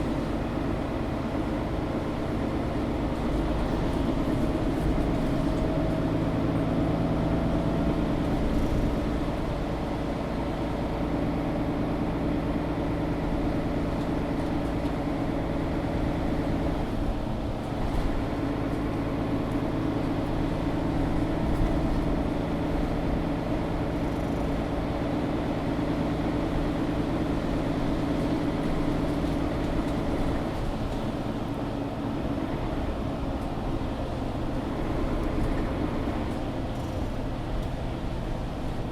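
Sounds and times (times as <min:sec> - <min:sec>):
bus engine hum: 0:00.0 - 0:38.9
road noise: 0:00.0 - 0:38.9.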